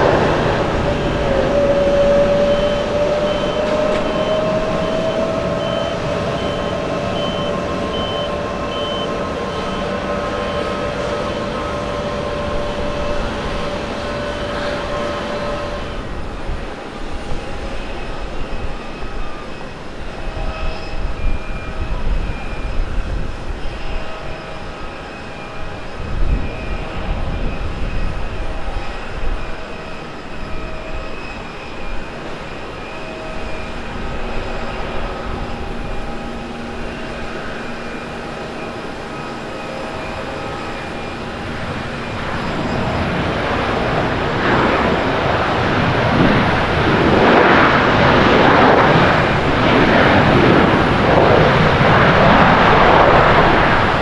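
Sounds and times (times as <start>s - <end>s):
aircraft rolling down runway: 0.0s - 54.0s
airliner engine hum landing: 0.0s - 54.0s.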